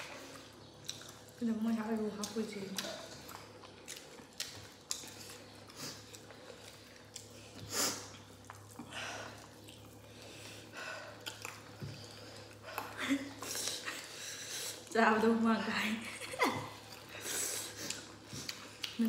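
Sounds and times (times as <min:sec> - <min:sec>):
chewing and wet mouth noises: 0:00.0 - 0:15.7, 0:16.5 - 0:19.0.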